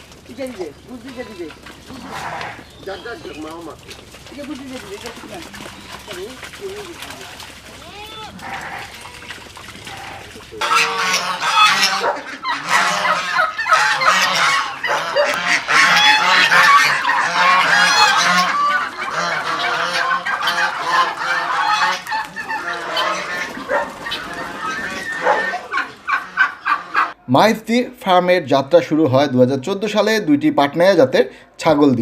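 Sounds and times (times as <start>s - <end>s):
geese honking: 0.0s - 27.2s.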